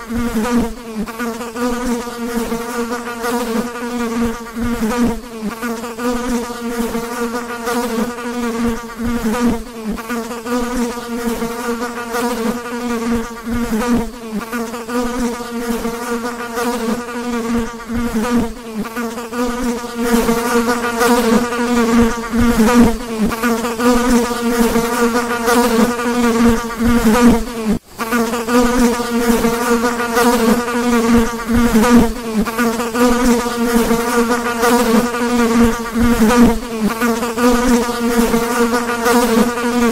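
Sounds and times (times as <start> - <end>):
fly buzzing: 0.0 - 39.9.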